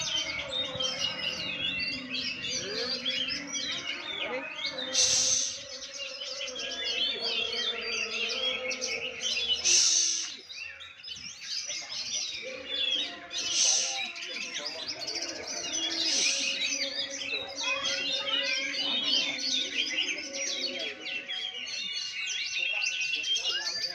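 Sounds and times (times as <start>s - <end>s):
birds singing whistled phrases: 0.0s - 23.9s.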